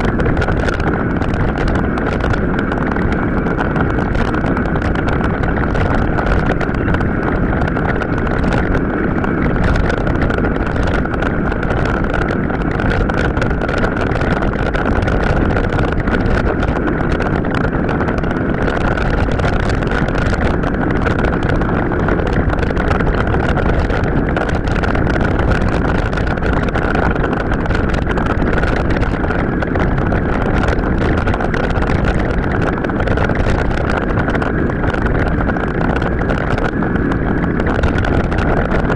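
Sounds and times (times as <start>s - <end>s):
bike tyre and frame rumble: 0.0s - 38.9s
steady high whine: 0.0s - 38.9s
wind noise on microphone: 0.0s - 38.9s.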